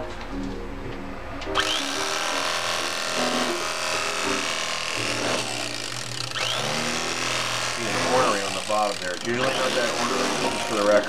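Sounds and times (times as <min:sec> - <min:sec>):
electric carving knife sawing meat: 0:01.6 - 0:11.0.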